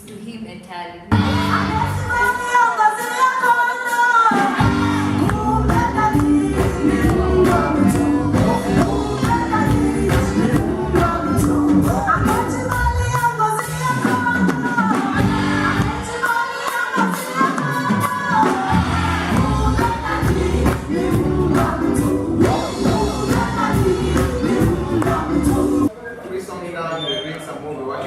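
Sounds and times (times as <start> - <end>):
voices singing in harmony: 1.1 - 25.9
gospel band playing: 1.1 - 26.2.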